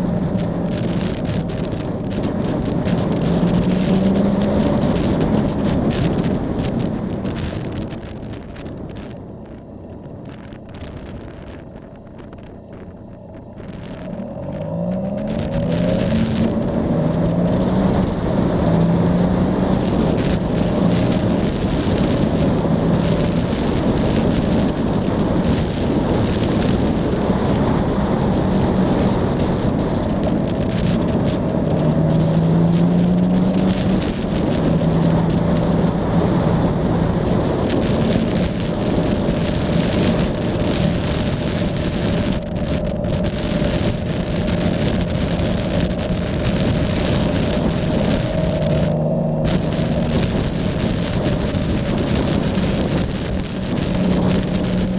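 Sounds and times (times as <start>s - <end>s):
motorcycle engine revving: 0.0s - 9.1s, 10.3s - 54.9s
wind rush: 0.0s - 54.9s.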